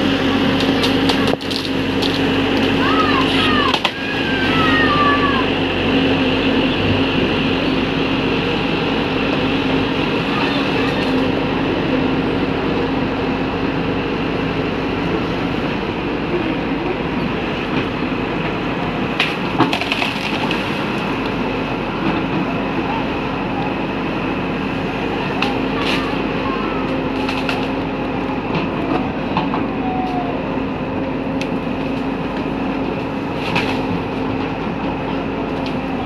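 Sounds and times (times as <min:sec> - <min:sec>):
excavator diesel engine running: 0:00.0 - 0:36.0
hydraulics working: 0:00.0 - 0:36.0.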